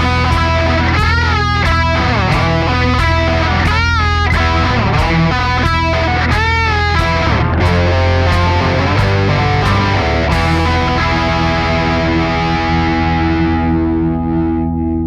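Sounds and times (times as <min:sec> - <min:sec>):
drum beat: 0:00.0 - 0:12.5
bass line: 0:00.0 - 0:15.0
distorted electric guitar lead: 0:00.0 - 0:15.0.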